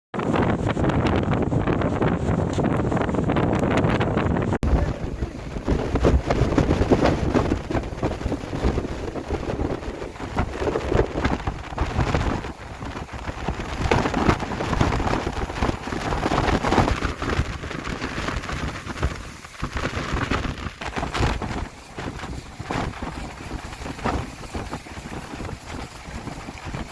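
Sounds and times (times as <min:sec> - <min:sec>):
gusty wind: 0:00.2 - 0:26.9
heavy rain: 0:04.6 - 0:26.9.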